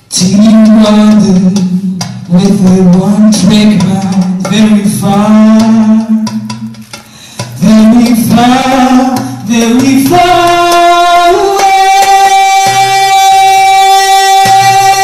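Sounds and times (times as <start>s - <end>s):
woman singing into a microphone: 0.1s - 6.6s, 7.6s - 15.0s.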